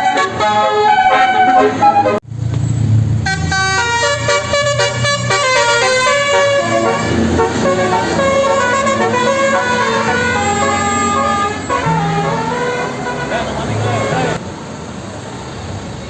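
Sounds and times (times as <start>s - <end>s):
musical air horn melody: 0.0s - 2.2s, 3.2s - 14.4s.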